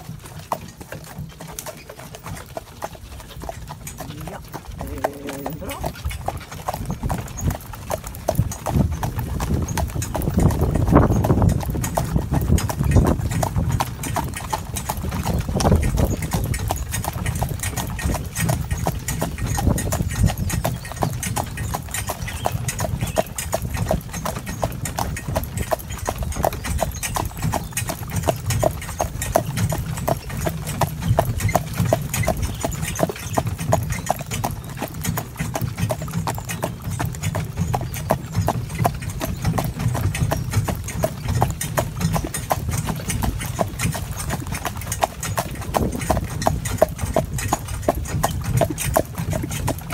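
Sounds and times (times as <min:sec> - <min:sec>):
horse hooves clip-clopping: 0:00.0 - 0:49.9.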